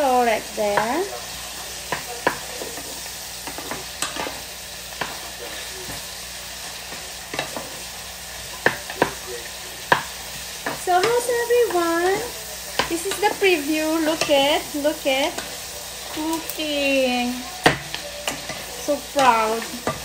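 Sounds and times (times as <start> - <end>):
meat and onions sizzling in a pan: 0.0 - 20.0
wooden spoons scraping a pan: 0.5 - 6.1, 6.8 - 20.0.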